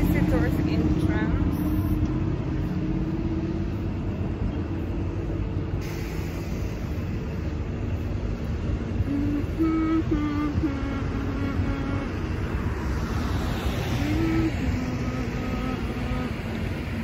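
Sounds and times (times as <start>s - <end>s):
road traffic with buses: 0.0s - 17.0s.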